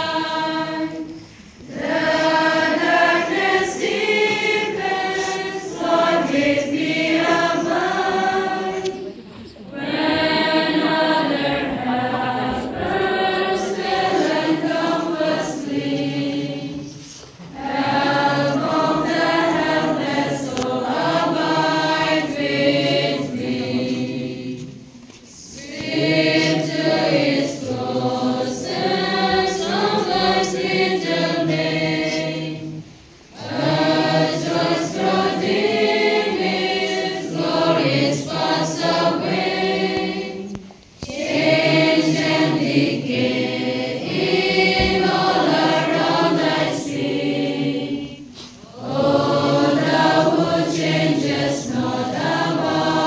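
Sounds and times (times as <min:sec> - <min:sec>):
women's choir singing a hymn: 0:00.0 - 0:53.0.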